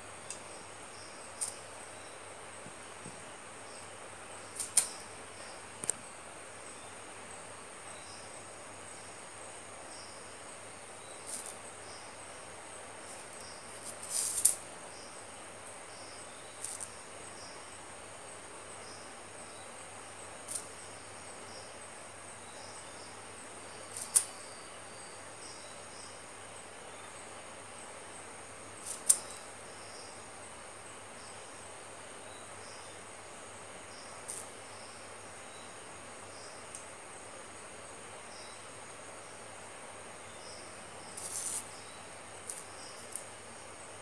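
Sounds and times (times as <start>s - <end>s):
insect chirring: 0.0s - 2.9s, 3.6s - 6.9s, 7.8s - 44.0s.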